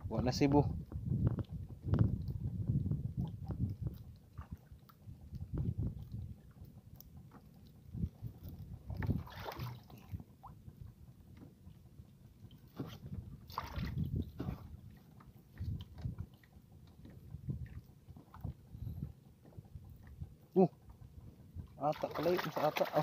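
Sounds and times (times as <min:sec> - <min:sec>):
water sloshing against boat hull: 0:00.1 - 0:23.0.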